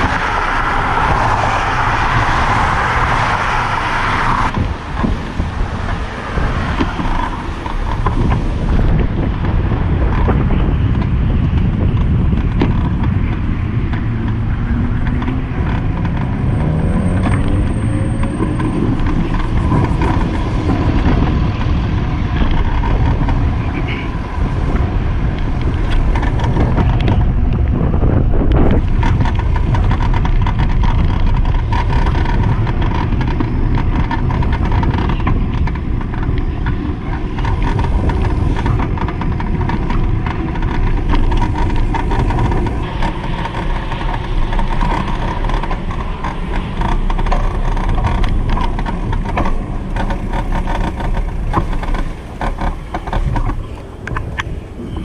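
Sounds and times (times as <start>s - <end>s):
road traffic passing: 0.0s - 55.0s
vehicle engine accelerating: 0.0s - 55.0s
wind on microphone: 0.0s - 55.0s.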